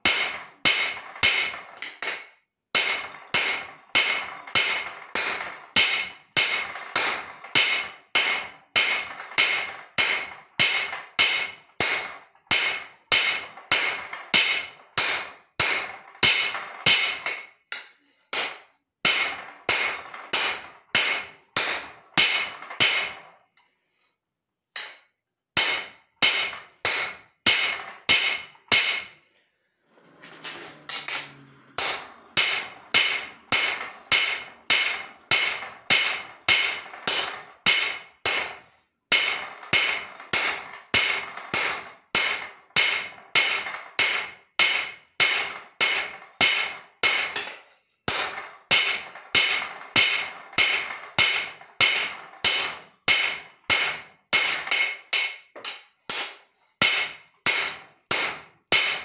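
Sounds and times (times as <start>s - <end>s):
hammer striking steel on anvil: 0.0s - 23.4s, 24.8s - 29.2s, 30.9s - 59.0s.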